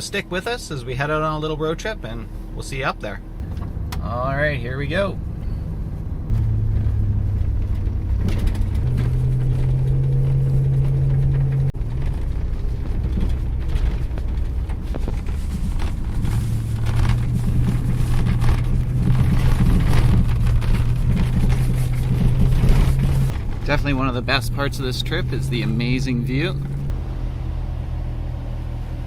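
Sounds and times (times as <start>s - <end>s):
road and tyre rumble: 0.0s - 29.0s
truck engine droning: 0.0s - 29.0s.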